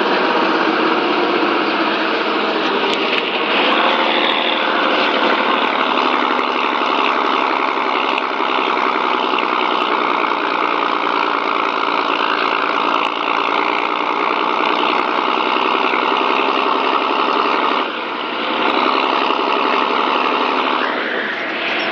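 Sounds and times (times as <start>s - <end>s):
engine running: 0.0s - 21.9s.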